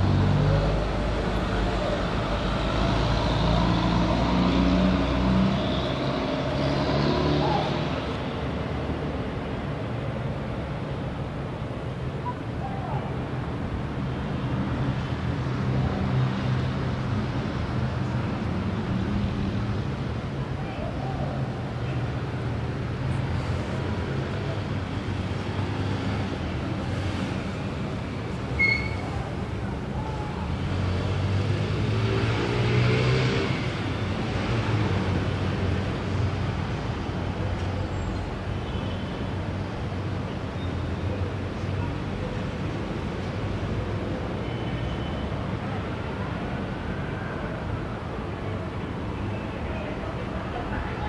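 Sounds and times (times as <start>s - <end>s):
background traffic rumble: 0.0s - 51.0s.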